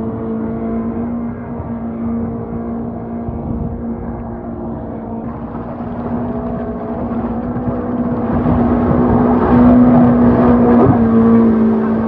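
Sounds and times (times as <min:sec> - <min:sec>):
jet boat engine: 0:00.0 - 0:12.0.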